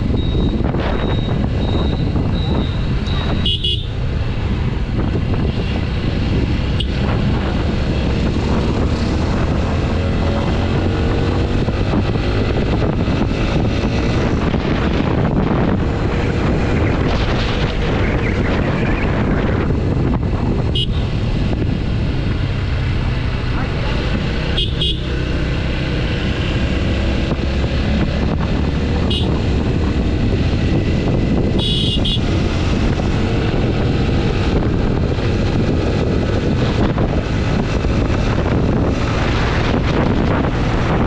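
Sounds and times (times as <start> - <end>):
wind noise on microphone: 0.0 - 41.0.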